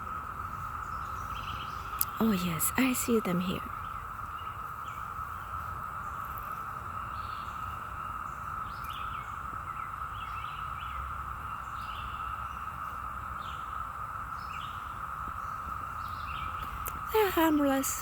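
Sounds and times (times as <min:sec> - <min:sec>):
cicada chorus drone: 0:00.0 - 0:18.0.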